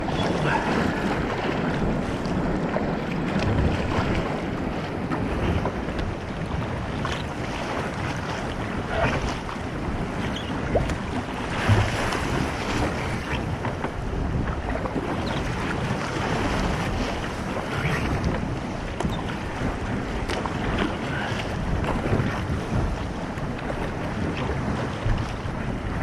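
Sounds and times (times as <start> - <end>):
waves washing against kayak: 0.0 - 26.0
wind buffeting microphone: 0.0 - 26.0.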